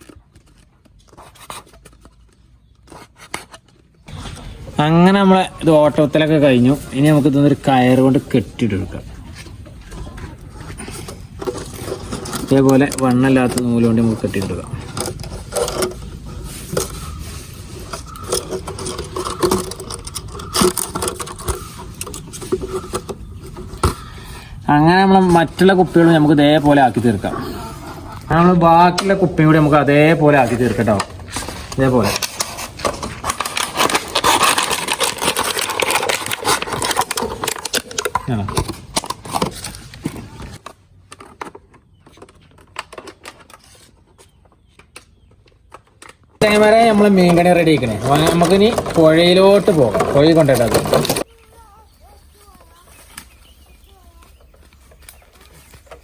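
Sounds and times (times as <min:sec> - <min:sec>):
plastic bottles clicking and crackling: 0:00.0 - 0:56.0.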